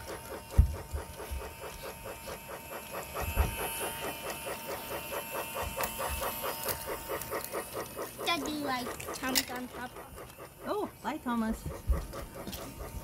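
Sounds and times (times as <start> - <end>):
toy train clattering on track: 0.0 - 13.0.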